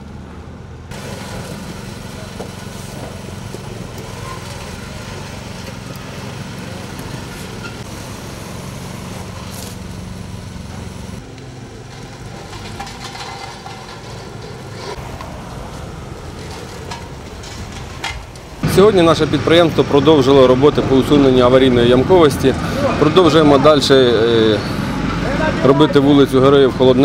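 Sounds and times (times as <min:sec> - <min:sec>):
road roller engine running: 0:00.0 - 0:27.0.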